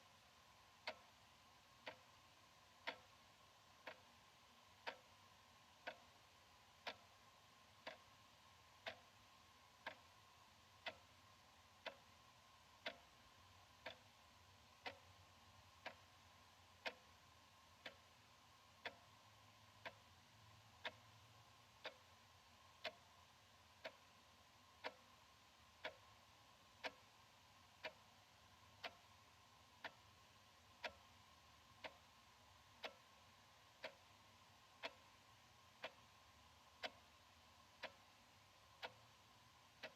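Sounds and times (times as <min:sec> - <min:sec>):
wall clock ticking: 0:00.0 - 0:39.9.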